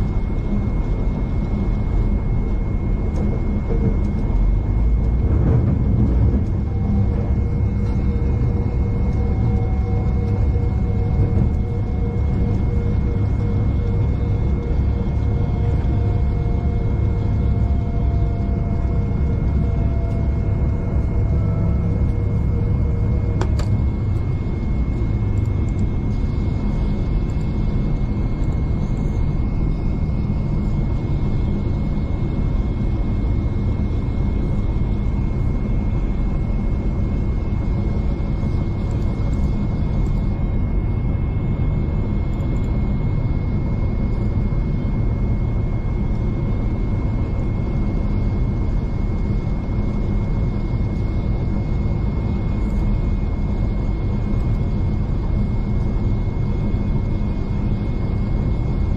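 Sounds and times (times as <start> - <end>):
faint high whine: 0.0 - 58.9
train rumble inside carriage: 0.0 - 58.9.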